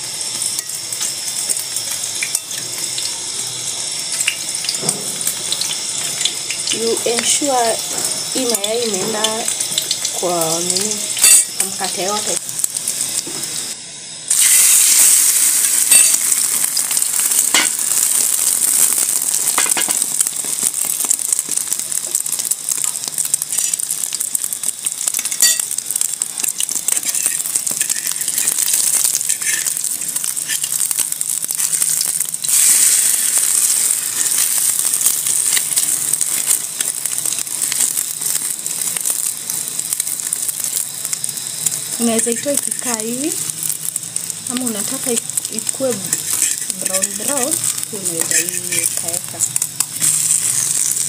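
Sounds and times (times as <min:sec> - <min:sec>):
bread frying in hot oil: 0:00.0 - 0:51.0.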